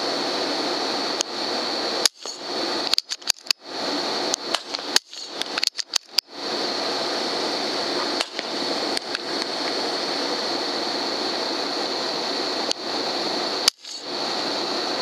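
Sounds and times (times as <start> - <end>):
high-pitched whine: 0.0 - 15.0
loud hiss: 0.0 - 15.0.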